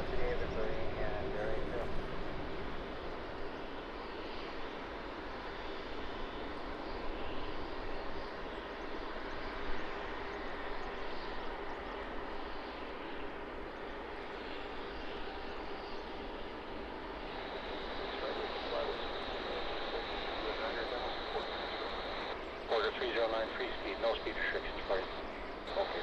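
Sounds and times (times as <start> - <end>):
jet engines: 0.0 - 26.0.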